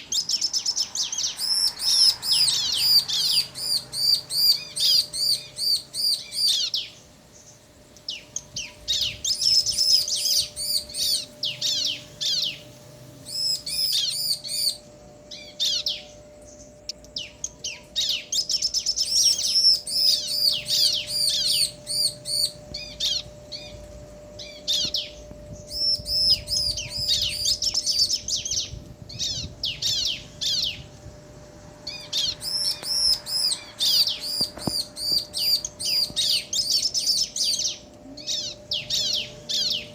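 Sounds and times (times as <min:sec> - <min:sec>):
birds rapid high chirping: 0:00.0 - 0:39.9.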